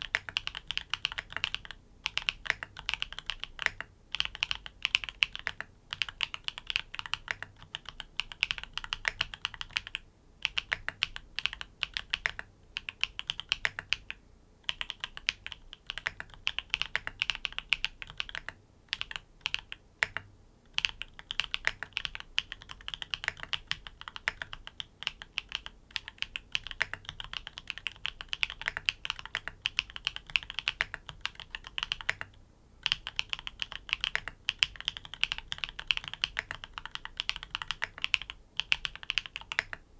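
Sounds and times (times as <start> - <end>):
mechanical keyboard typing: 0.0 - 39.8.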